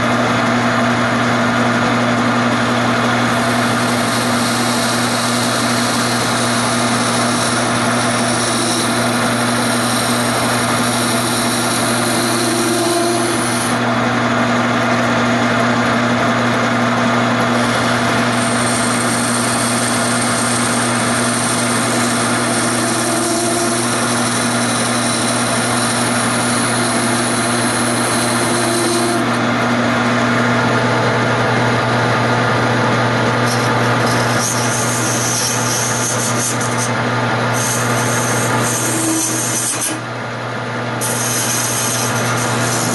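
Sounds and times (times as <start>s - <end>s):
motor hum: 0.0s - 42.9s
lathe tool rasping wood: 2.1s - 14.1s, 17.0s - 30.4s, 32.8s - 40.1s, 40.9s - 42.9s.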